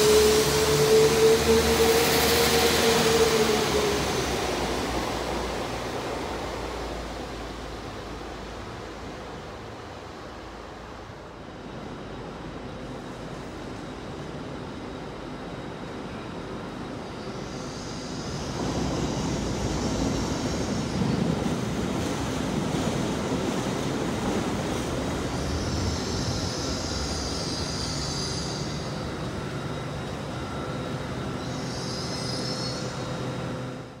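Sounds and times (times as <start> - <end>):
train wheels squealing: 0.0 - 6.2, 11.9 - 33.9
low train rumble: 0.0 - 34.0.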